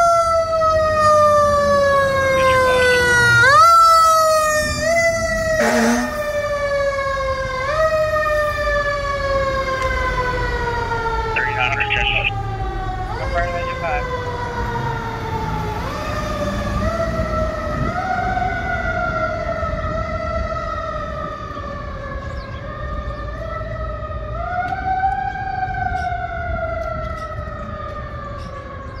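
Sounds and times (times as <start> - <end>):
fire engine siren wailing: 0.0 - 29.0
traffic rumble: 0.7 - 6.6, 9.1 - 29.0.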